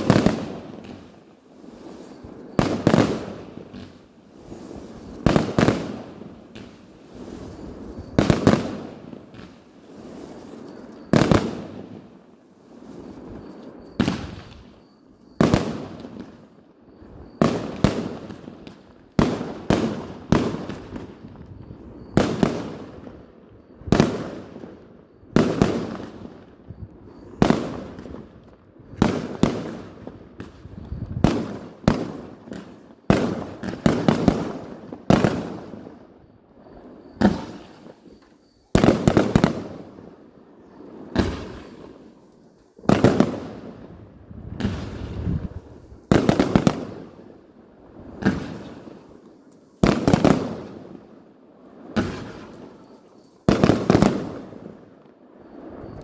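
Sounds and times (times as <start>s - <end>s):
fireworks bangs echoing: 0.0s - 16.5s, 17.3s - 21.4s, 22.0s - 23.2s, 25.4s - 26.6s, 27.2s - 54.9s.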